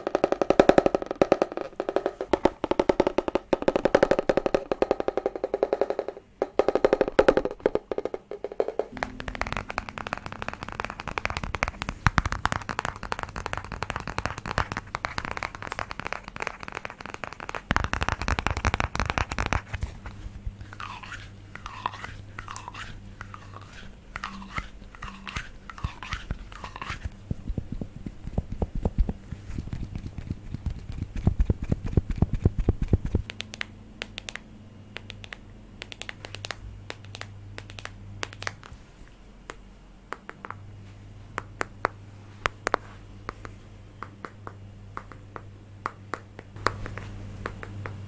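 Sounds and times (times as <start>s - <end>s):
rapid tapping on objects: 0.0s - 48.0s.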